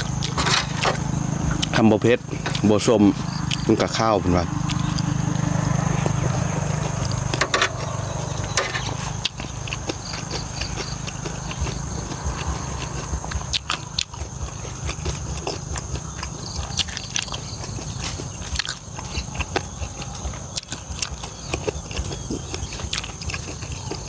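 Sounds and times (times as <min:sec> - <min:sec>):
close-up wet chewing: 0:00.0 - 0:24.0.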